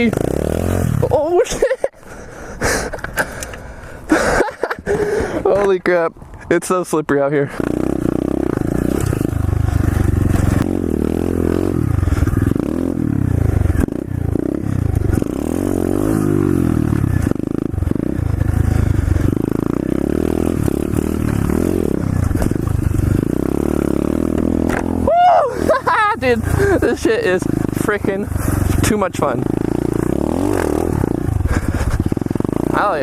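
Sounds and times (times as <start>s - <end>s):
pit bike engine revving: 0.0s - 5.4s, 7.5s - 33.0s.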